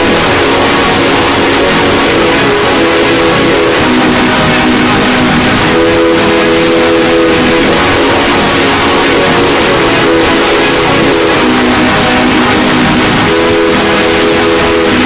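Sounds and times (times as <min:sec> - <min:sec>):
harsh distorted electronic noise: 0:00.0 - 0:15.0
held buzzing tones: 0:00.0 - 0:15.0.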